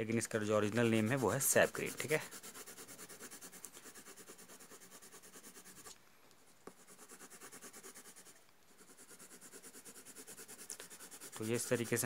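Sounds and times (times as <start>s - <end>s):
pencil scratching on paper: 0.6s - 5.9s, 6.7s - 12.0s.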